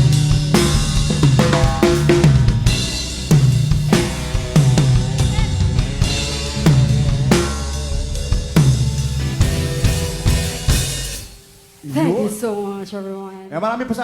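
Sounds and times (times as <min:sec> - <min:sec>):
bass notes sliding down: 0:00.0 - 0:12.6
reggae band playing: 0:00.0 - 0:13.1.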